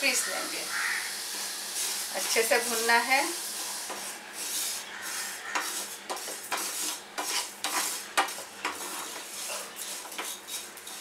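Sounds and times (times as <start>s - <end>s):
seeds sizzling in a pan: 0.0s - 11.0s
spatula scraping a pan: 0.0s - 11.0s.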